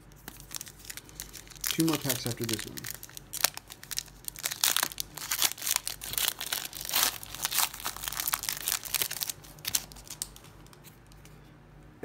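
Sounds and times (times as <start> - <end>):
foil wrapper crinkling and tearing: 0.0 - 10.9.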